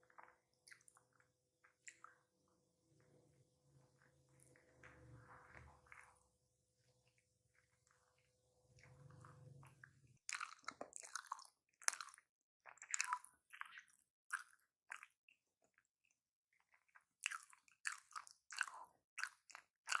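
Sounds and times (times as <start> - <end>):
close chewing and wet mouth sounds: 0.0 - 20.0.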